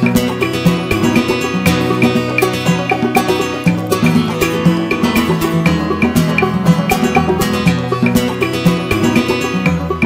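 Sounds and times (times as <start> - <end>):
plucked-string tune with beat: 0.0 - 10.0.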